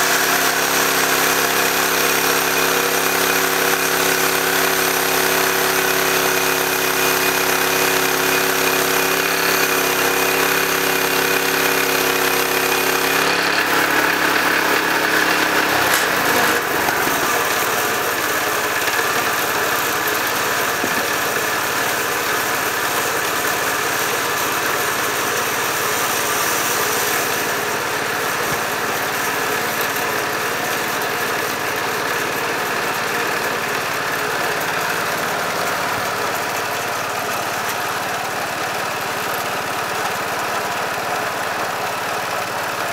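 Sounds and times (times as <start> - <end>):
bandsaw mill engine running: 0.0 - 42.9.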